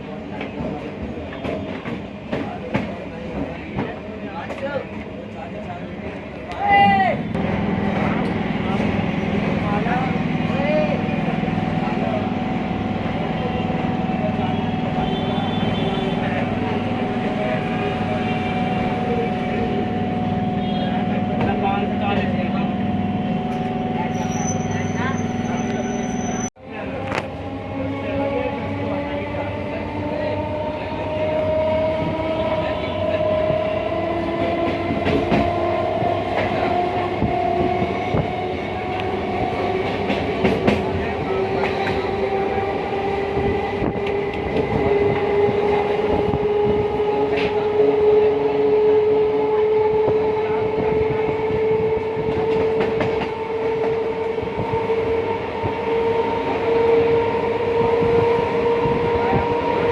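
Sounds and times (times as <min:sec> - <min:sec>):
train rumble with rising whine: 0:00.0 - 0:59.9.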